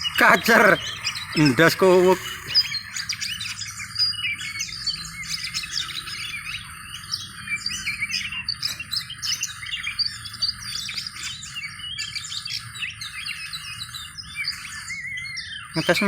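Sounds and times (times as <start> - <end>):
bird singing chirps and whistles: 0.0 - 16.0.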